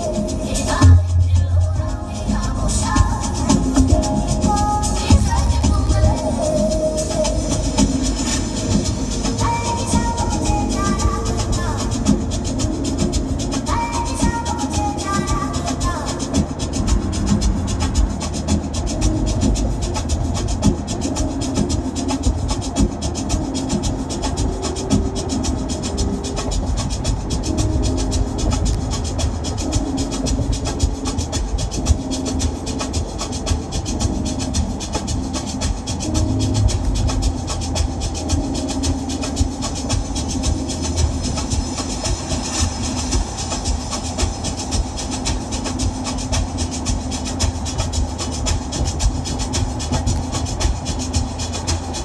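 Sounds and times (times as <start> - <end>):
fast ticking rattle: 0.0 - 52.0
van road and engine rumble: 0.0 - 52.0.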